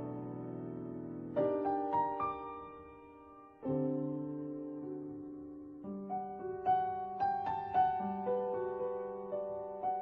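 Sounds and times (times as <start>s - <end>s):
slow soft piano music: 0.0s - 10.0s.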